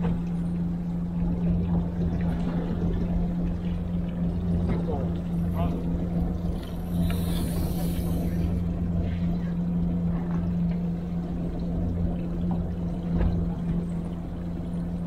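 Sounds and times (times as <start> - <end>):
boat engine humming: 0.0 - 15.0
water sloshing against hull: 0.0 - 15.0.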